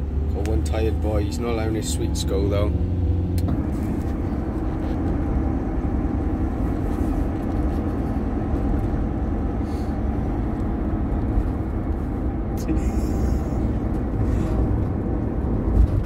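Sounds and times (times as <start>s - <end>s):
engine and road noise in cabin: 0.0s - 16.0s.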